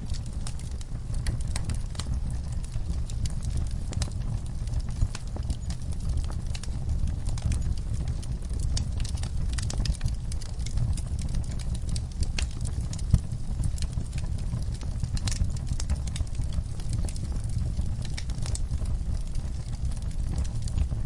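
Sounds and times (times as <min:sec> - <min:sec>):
fire pops and snaps: 0:00.0 - 0:21.0
low rumble of burning fire: 0:00.0 - 0:21.0.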